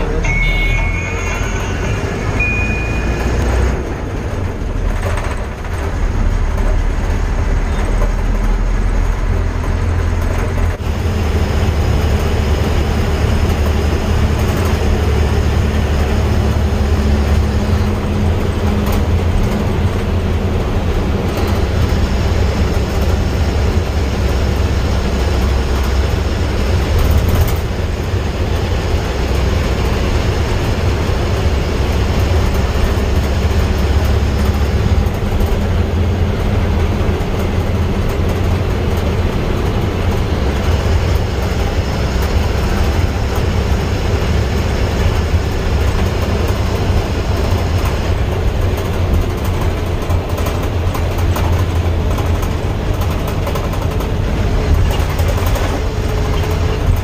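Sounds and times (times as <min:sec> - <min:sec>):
vehicle road rumble: 0:00.0 - 0:57.0.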